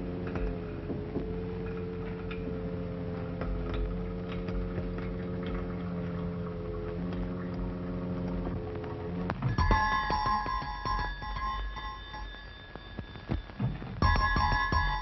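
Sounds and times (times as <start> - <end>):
electrical hum of apparatus: 0.0 - 15.0
faint ticks and clicks: 0.0 - 15.0.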